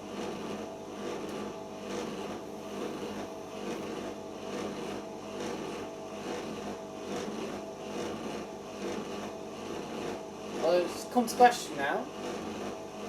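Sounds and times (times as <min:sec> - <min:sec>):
washing machine drum spinning: 0:00.0 - 0:13.0.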